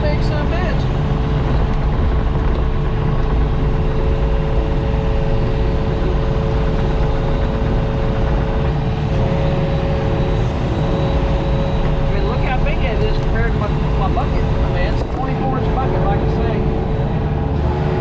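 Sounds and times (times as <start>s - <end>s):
diesel engine running: 0.0s - 18.0s
whine-like tone: 0.0s - 18.0s.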